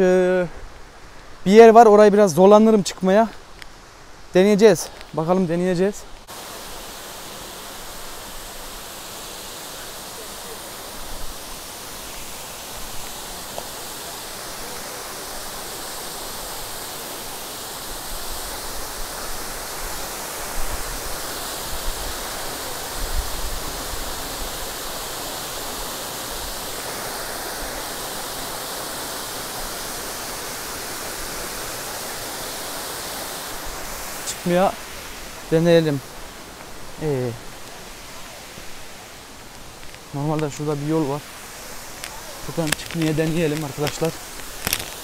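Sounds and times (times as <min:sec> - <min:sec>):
waterfall rushing: 0:04.1 - 0:45.0.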